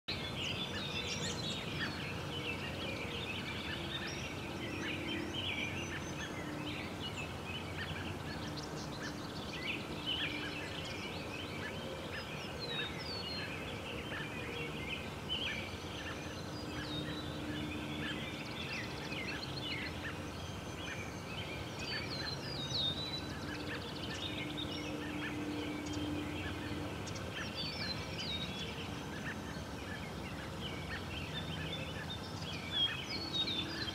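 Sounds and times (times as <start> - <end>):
songbirds chirping and singing: 0.1 - 33.9.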